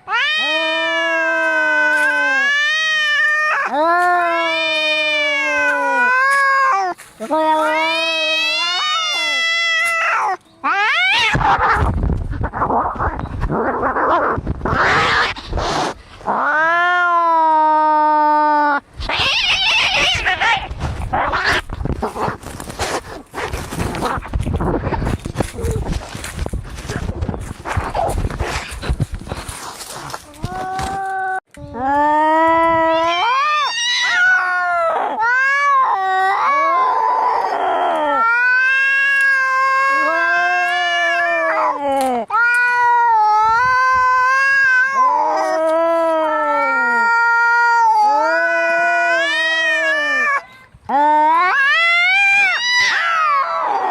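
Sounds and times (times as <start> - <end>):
cats screeching and yowling: 0.0 - 53.9.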